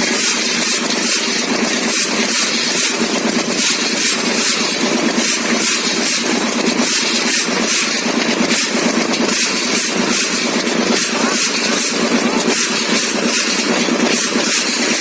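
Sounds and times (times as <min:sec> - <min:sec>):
engine running with pulsing hiss: 0:00.0 - 0:15.0.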